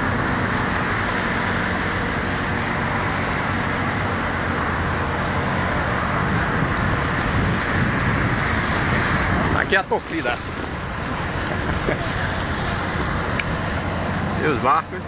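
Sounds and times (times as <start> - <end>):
low engine hum: 0.0 - 15.0
passing cars rushing: 0.0 - 15.0.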